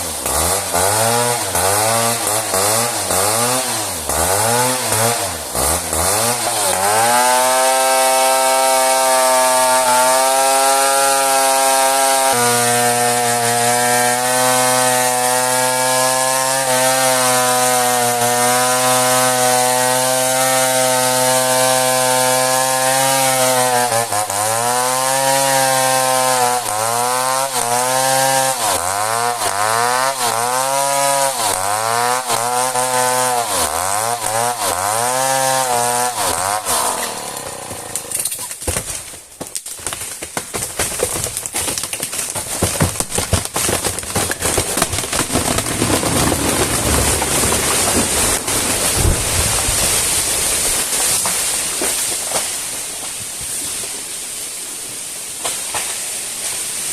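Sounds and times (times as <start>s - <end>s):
chainsaw cutting hardwood: 0.0s - 54.3s, 55.0s - 56.9s.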